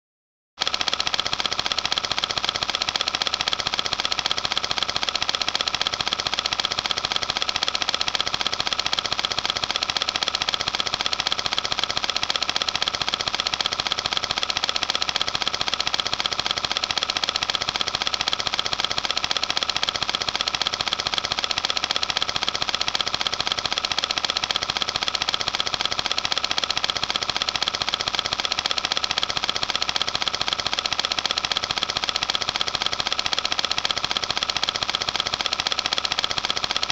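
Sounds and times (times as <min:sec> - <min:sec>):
film projector clattering: 0:00.6 - 0:36.9.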